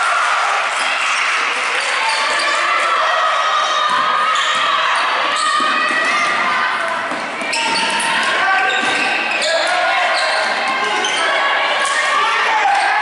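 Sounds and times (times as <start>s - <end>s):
people shouting and chatting: 0.0s - 13.0s.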